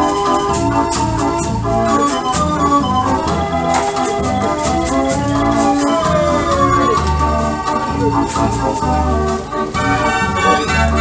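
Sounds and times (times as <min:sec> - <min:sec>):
street organ playing a tune: 0:00.0 - 0:11.0.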